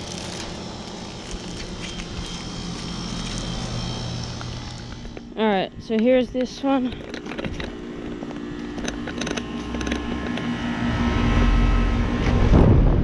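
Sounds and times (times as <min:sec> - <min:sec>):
compressor hum: 0:00.0 - 0:13.0
condenser fan noise: 0:00.0 - 0:13.0
low rumble: 0:00.0 - 0:13.0.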